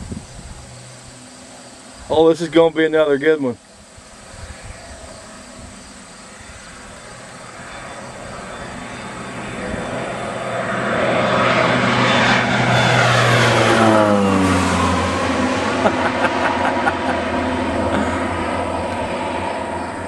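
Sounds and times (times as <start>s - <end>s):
airplane engine passing overhead: 0.0s - 20.0s.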